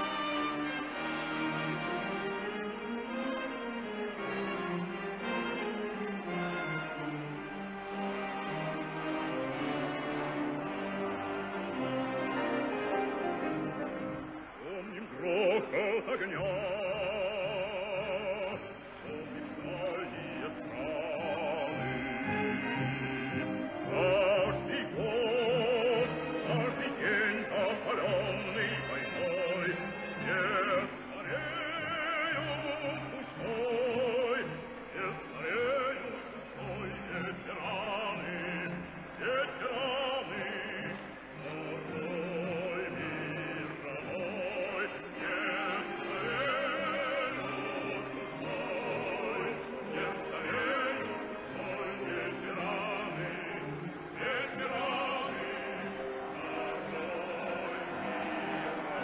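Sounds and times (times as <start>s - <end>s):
operatic singing: 0.0s - 59.0s.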